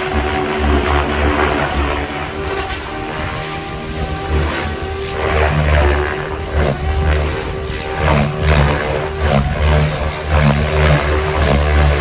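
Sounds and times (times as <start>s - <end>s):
electric motor whine: 0.0s - 12.0s
helicopter rotor blades whooshing: 0.0s - 12.0s.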